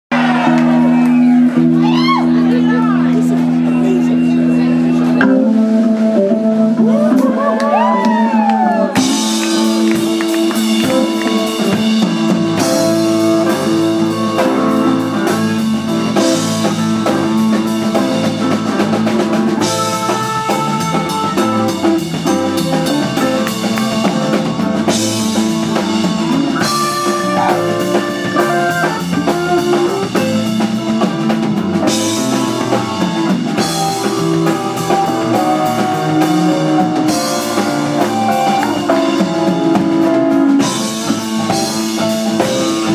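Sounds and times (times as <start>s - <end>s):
drum kit with cymbals: 0.1s - 42.9s
electric bass: 0.1s - 42.9s
electric guitar: 0.1s - 42.9s
piano: 0.1s - 42.9s.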